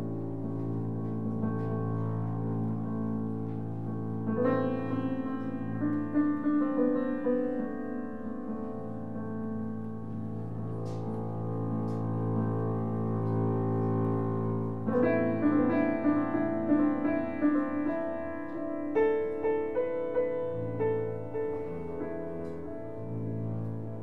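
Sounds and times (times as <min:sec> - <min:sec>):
piano notes: 0:00.0 - 0:24.0.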